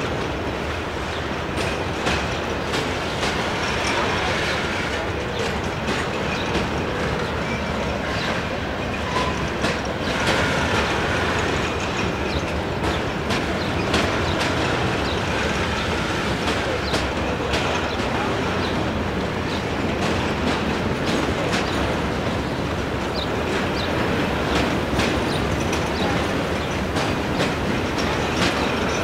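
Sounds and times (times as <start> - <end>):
train wheels rumbling on rail: 0.0 - 29.0
wheels clicking and clacking: 1.6 - 29.0.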